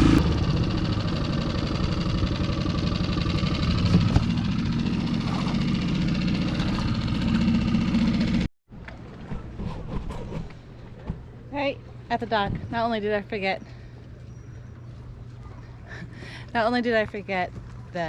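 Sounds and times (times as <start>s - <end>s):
outboard motor running: 0.0s - 9.6s, 10.6s - 18.0s.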